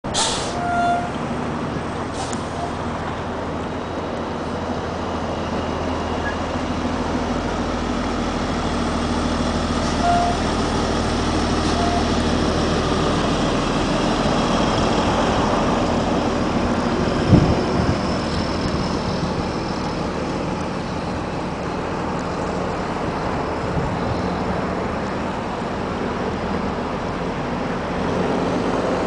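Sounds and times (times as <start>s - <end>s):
diesel coach engine drone: 0.0s - 29.0s.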